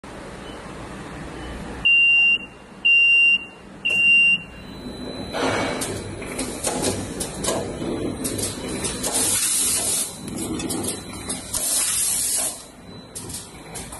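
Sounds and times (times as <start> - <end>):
low machine hum: 0.4 - 13.9
high buzzer beeps: 1.4 - 13.9.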